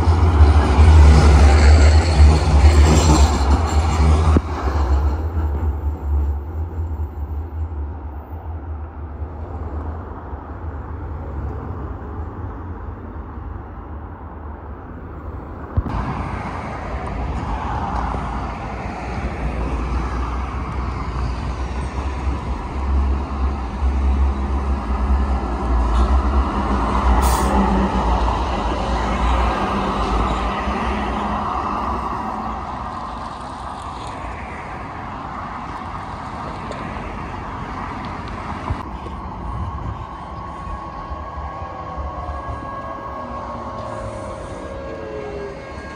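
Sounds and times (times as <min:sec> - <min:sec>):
cars moving along road: 0:00.0 - 0:45.9.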